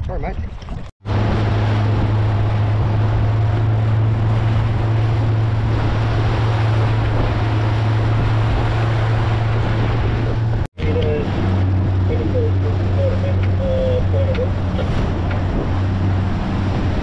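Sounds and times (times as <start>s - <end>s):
water noise: 0.0s - 17.0s
wind on microphone: 0.0s - 17.0s
outboard motor running: 0.6s - 17.0s.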